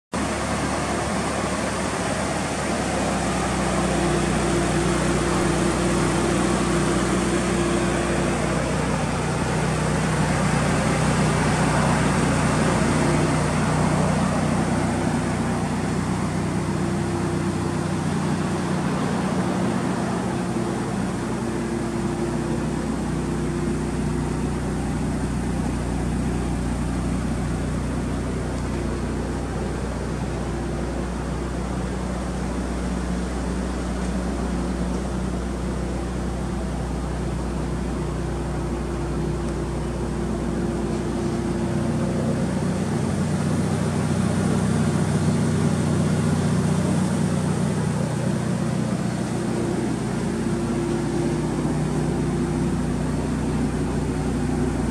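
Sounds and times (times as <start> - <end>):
car engine idling: 0.1 - 54.9
road noise: 0.1 - 54.9.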